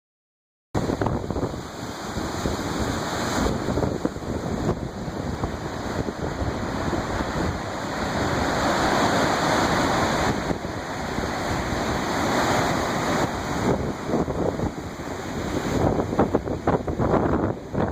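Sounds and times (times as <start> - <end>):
waves breaking on shore: 0.8 - 17.9
wind rumbling on microphone: 0.8 - 17.9.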